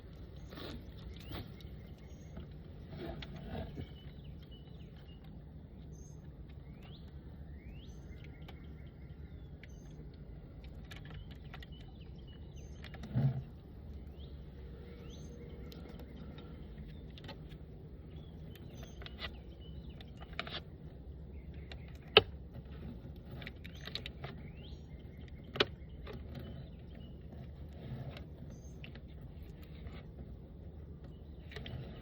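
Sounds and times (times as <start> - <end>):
steady low hum: 0.0 - 32.0
wooden hive parts clicking: 0.0 - 32.0.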